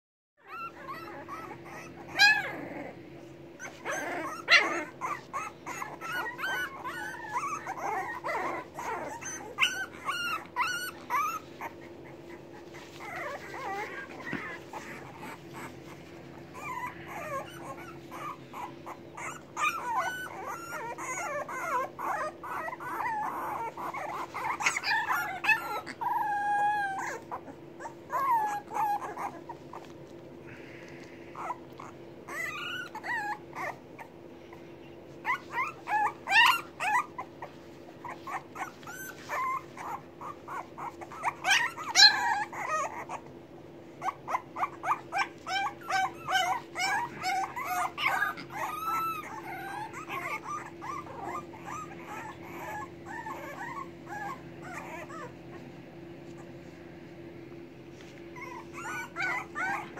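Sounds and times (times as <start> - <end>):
puppies whimpering and whining: 0.4 - 59.9.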